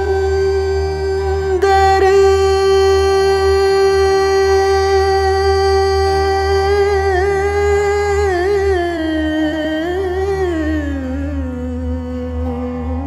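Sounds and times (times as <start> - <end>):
veena: 0.0 - 13.0.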